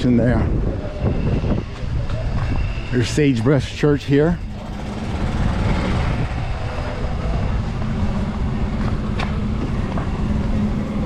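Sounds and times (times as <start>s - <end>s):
vehicle motor and road rumble: 0.0s - 11.0s.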